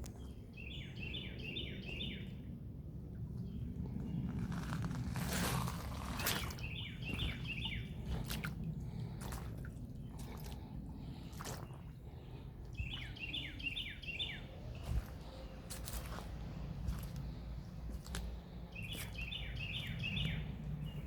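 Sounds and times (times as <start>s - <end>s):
songbird singing: 0.0s - 2.6s, 3.4s - 21.0s.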